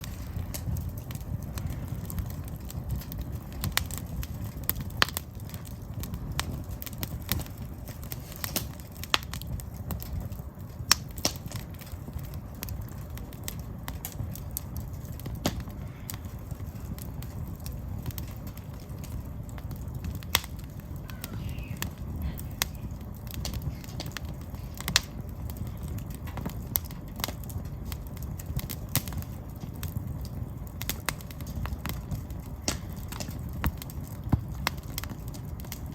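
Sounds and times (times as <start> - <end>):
firewood crackling and popping: 0.0 - 35.9
low steady rumble: 0.0 - 35.9.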